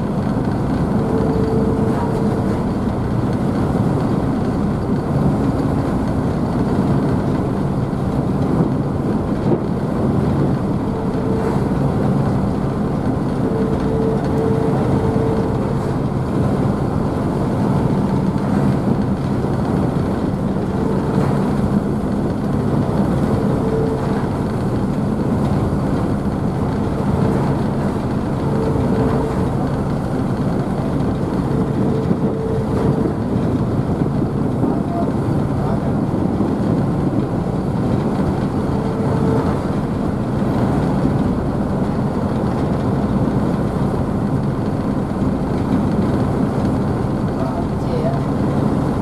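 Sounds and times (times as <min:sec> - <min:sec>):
ship engines humming: 0:00.0 - 0:49.0.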